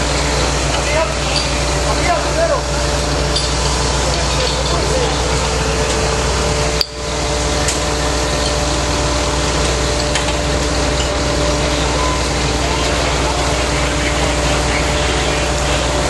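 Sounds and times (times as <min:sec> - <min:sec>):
fire engine motor droning: 0:00.0 - 0:16.0.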